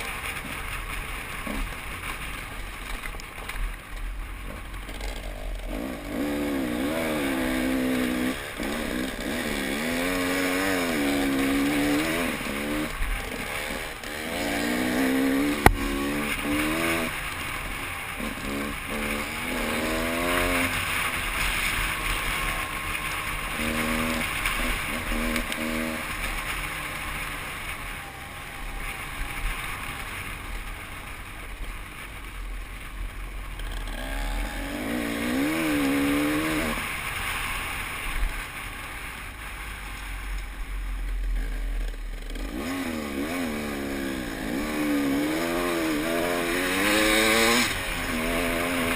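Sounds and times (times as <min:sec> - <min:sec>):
motorcycle engine revving: 0:00.0 - 0:48.9
wind and trail noise: 0:00.0 - 0:48.9.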